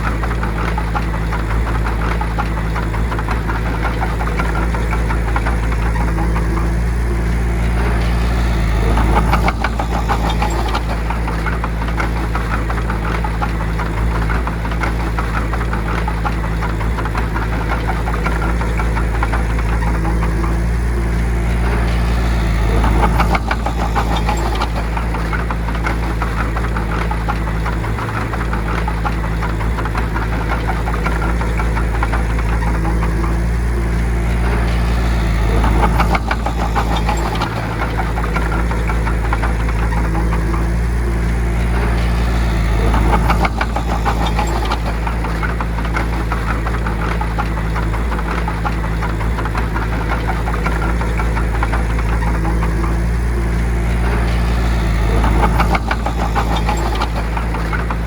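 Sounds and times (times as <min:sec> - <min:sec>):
bulldozer diesel engine running: 0:00.0 - 0:58.0
fast rattling clatter: 0:00.0 - 0:58.0.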